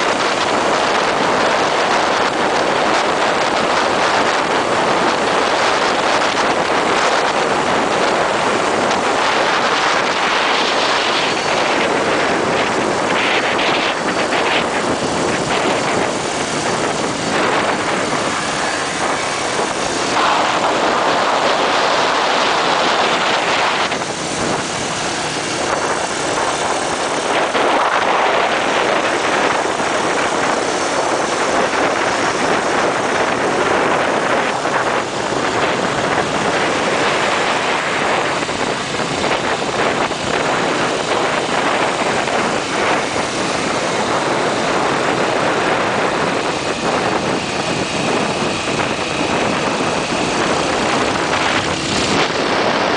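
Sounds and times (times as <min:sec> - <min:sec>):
motorcycle engines and road noise: 0:00.0 - 0:52.9
wind rush on microphone: 0:00.0 - 0:52.9.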